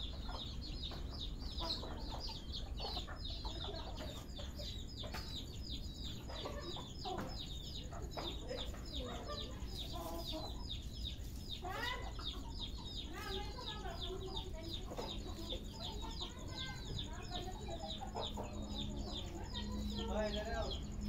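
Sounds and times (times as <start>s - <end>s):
chicken clucks: 0.0s - 21.0s
chickens chirping: 0.0s - 21.0s.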